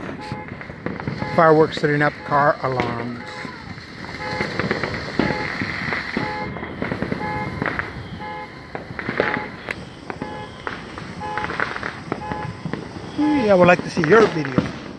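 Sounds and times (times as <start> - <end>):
car alarm repeating tone: 0.0 - 13.8
fountain firework hissing and crackling: 0.0 - 14.9.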